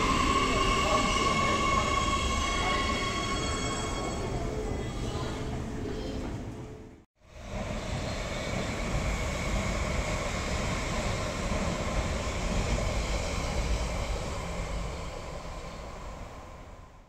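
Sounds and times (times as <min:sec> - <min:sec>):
train wheels rumbling on track: 0:00.0 - 0:17.0
train whine: 0:00.0 - 0:17.0.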